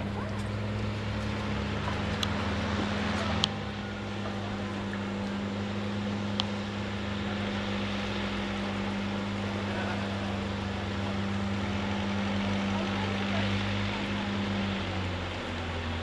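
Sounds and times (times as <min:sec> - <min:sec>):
motorboat engine droning: 0:00.0 - 0:16.0.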